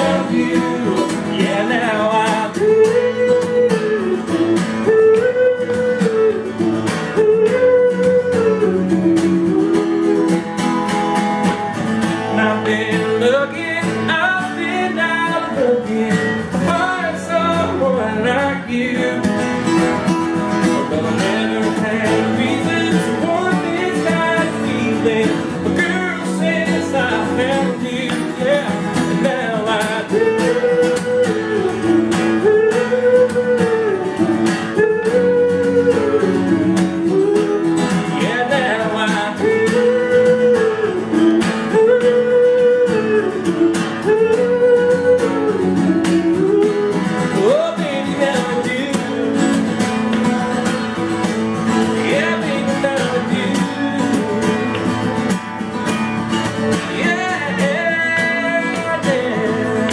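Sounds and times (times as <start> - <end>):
acoustic guitars strummed: 0.0 - 59.9
man singing: 0.0 - 59.9.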